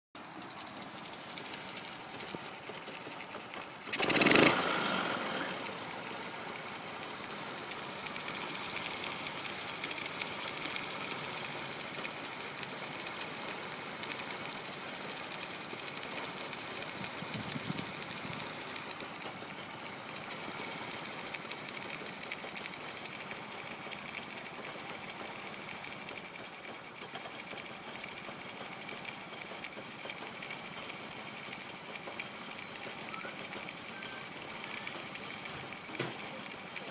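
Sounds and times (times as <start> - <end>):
motorcycle engine idling: 0.2 - 36.9.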